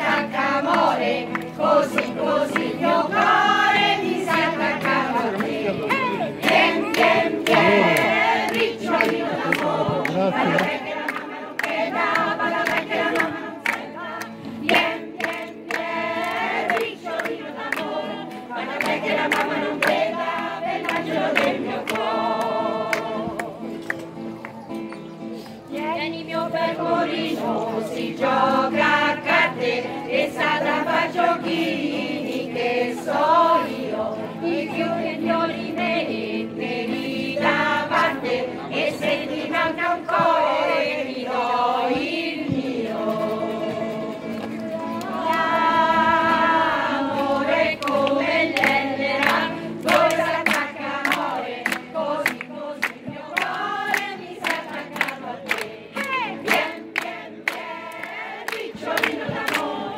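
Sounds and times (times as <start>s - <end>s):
women singing in chorus: 0.0s - 23.8s, 25.7s - 59.9s
rhythmic hand clapping: 0.0s - 25.1s, 25.9s - 59.9s
acoustic guitar: 0.0s - 59.9s.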